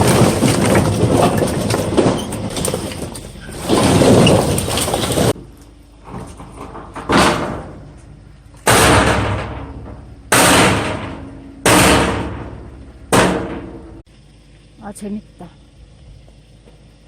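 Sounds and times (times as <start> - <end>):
firewood logs thudding onto pile: 0.0 - 14.0.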